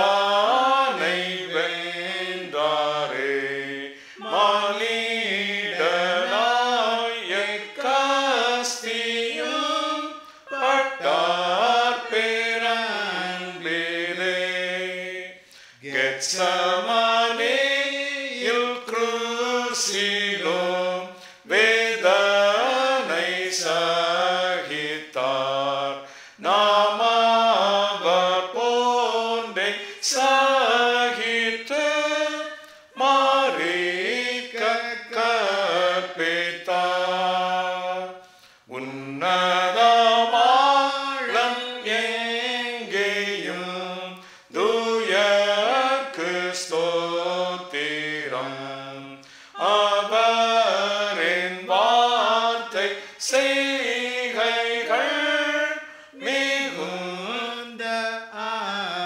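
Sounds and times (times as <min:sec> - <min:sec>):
person singing a hymn: 0:00.0 - 0:59.0.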